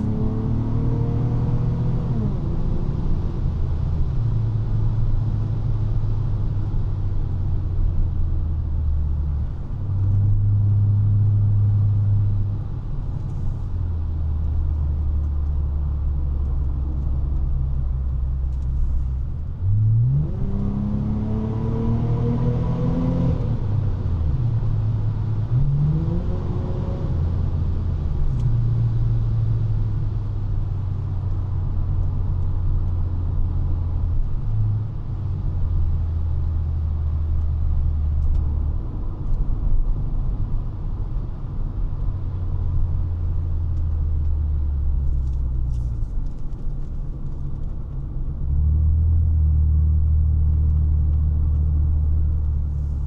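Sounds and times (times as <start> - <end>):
car engine droning: 0.0 - 53.0.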